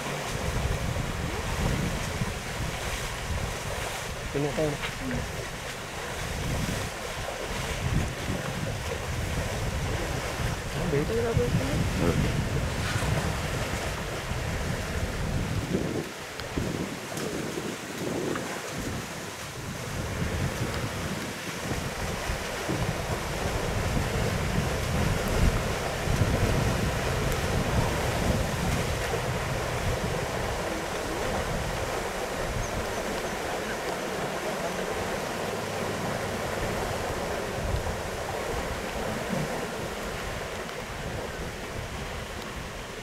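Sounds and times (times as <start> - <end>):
steady rushing noise: 0.0 - 43.0
wind buffeting microphone: 0.0 - 43.0.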